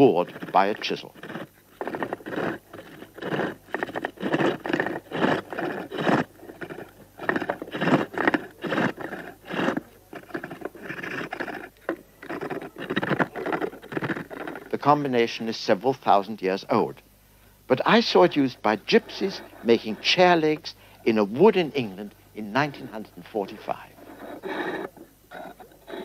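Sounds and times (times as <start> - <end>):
chisel scraping turning wood: 0.0 - 15.0, 17.7 - 26.0.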